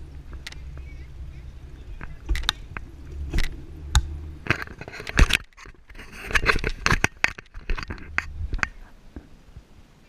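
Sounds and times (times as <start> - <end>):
bicycle rattling over rough ground: 0.0 - 9.0
wind rumble on microphone: 0.0 - 10.0.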